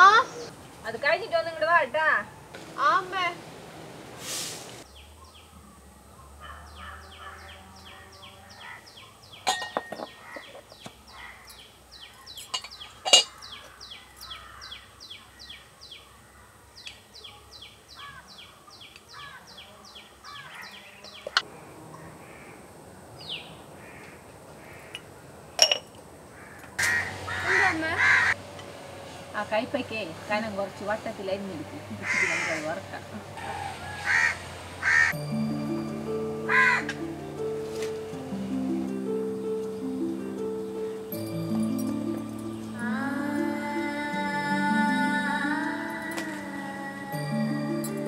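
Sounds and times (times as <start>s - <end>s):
birds chirping: 4.8s - 25.7s, 26.3s - 48.0s.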